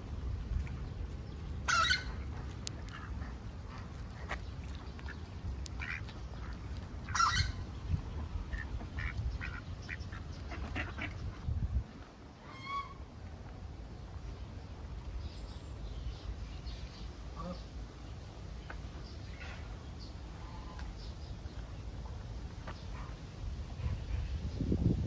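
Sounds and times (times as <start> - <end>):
steady low rumble: 0.0 - 25.0
birds calling: 0.4 - 11.6, 14.0 - 23.2.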